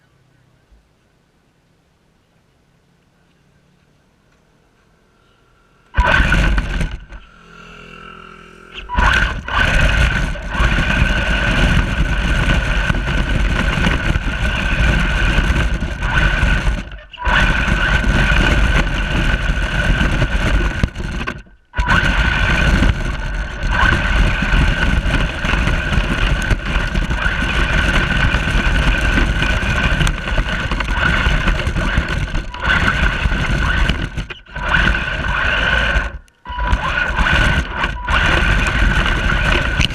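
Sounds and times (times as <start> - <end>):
radio-controlled truck motor whine: 5.6 - 39.9.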